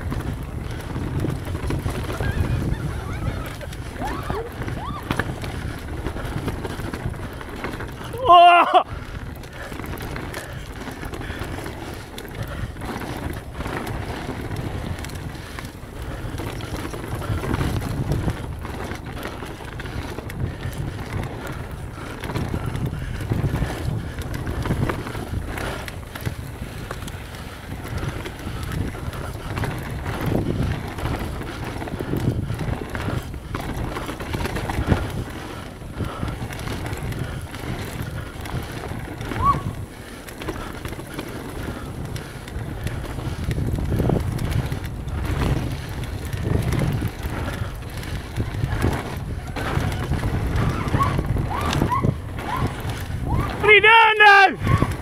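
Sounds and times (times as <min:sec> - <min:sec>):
bike rattles and knocks: 0:00.0 - 0:55.0
tyres on loose dirt: 0:00.0 - 0:55.0
wind rumbling on microphone: 0:00.0 - 0:55.0.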